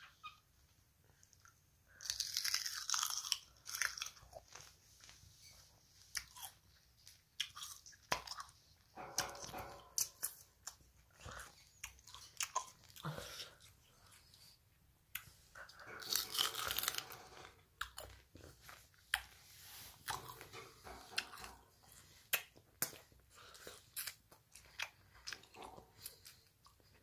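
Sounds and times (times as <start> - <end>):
crunchy fruit being chewed: 1.2 - 5.2, 6.0 - 27.0.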